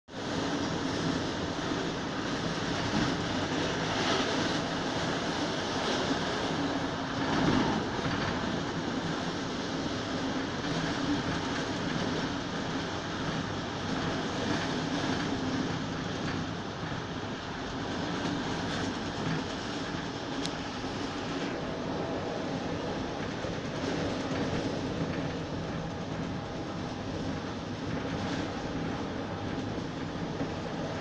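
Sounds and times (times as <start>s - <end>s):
train wheels rumbling on rails: 0.1s - 31.0s.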